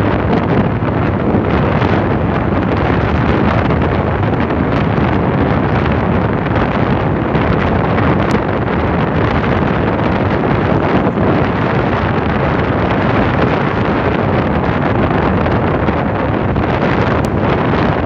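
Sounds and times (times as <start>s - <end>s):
motorcycle engine: 0.0s - 18.0s
wind buffeting microphone: 0.0s - 18.0s.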